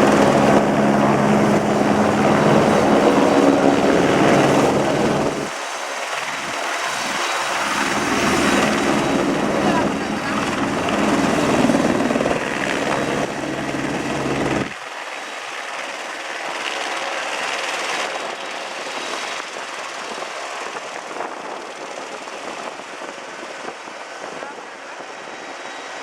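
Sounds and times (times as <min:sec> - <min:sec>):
helicopter engine whine and hiss: 0:00.0 - 0:26.0
helicopter rotor beat: 0:00.0 - 0:26.0.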